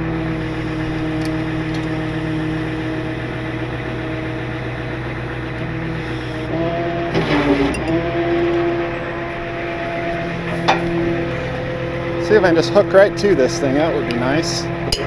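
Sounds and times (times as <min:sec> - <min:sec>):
hydraulic pump and engine hum: 0:00.0 - 0:15.0.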